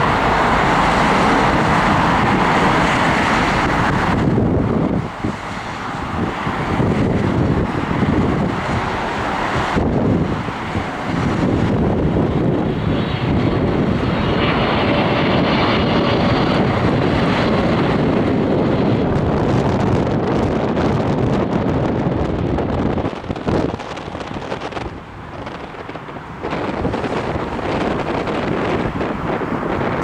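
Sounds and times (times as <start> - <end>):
aircraft engines passing: 0.0 - 30.0.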